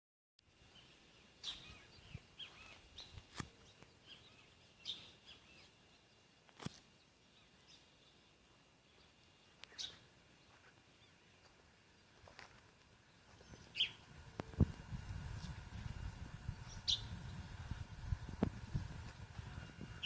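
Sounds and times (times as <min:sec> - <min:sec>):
birds chirping: 0:00.6 - 0:14.7, 0:15.4 - 0:20.0.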